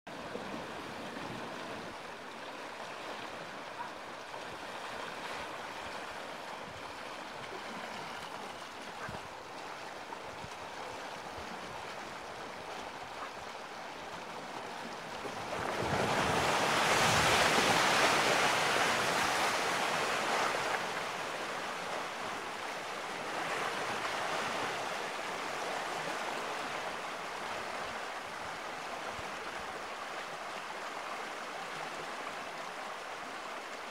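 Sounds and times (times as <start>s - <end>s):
river rushing: 0.1s - 33.9s.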